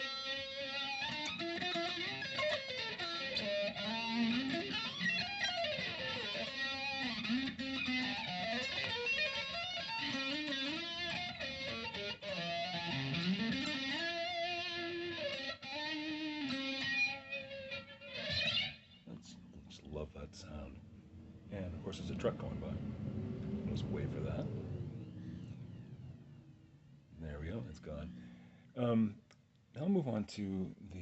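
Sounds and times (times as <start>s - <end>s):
distorted electric guitar with flanger: 0.0s - 28.6s.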